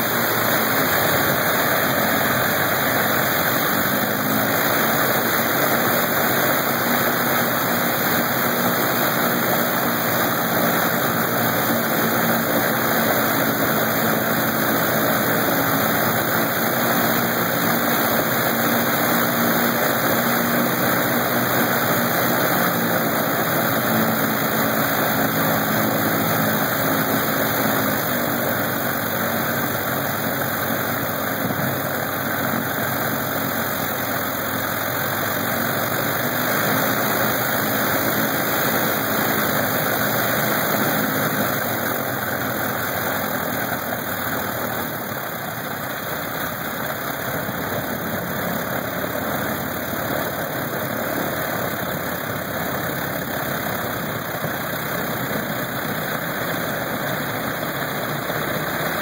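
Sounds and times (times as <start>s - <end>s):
radial engine running: 0.0s - 59.0s.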